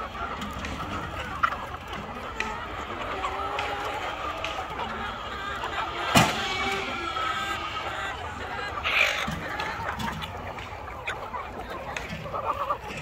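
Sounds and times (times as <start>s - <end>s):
flock of chickens clucking: 0.0s - 13.0s.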